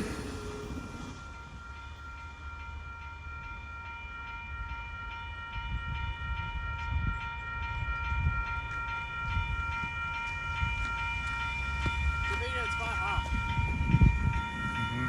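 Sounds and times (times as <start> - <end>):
railroad bell ringing: 0.0 - 15.0
train rumbling: 0.0 - 15.0.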